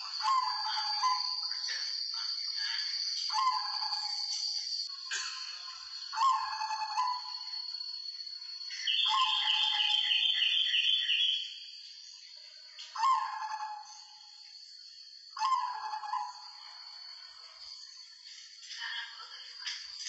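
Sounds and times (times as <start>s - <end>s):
faint steady high whine: 0.0s - 20.0s.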